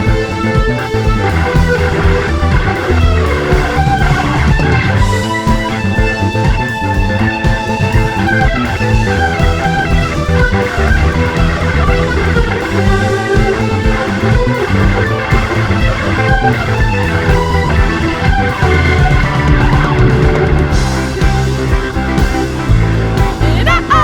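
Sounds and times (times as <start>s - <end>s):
bass guitar: 0.0s - 24.0s
electric guitar: 0.0s - 24.0s.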